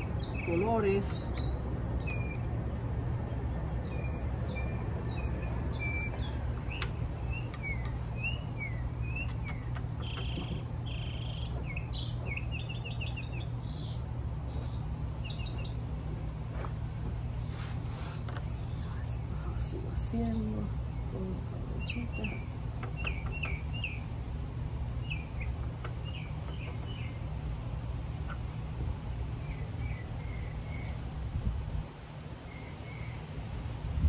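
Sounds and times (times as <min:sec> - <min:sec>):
small birds chirping: 0:00.0 - 0:33.6
low background rumble: 0:00.0 - 0:34.0.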